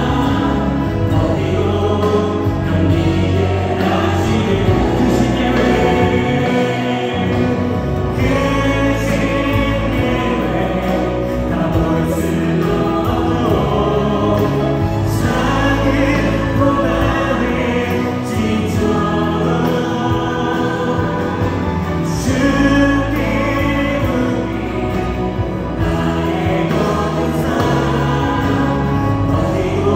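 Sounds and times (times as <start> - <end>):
group singing worship song: 0.0 - 29.9
live band with keyboard and guitar: 0.0 - 29.9.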